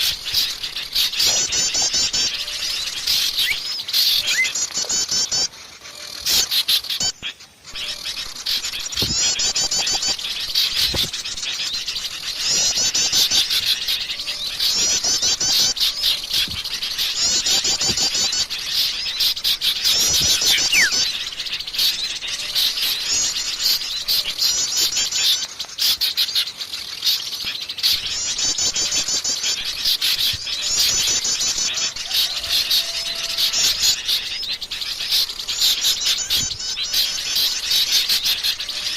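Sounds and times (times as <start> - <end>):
rapid high bird trill: 0.0 - 38.9
songbirds chirping and twittering: 0.0 - 38.9.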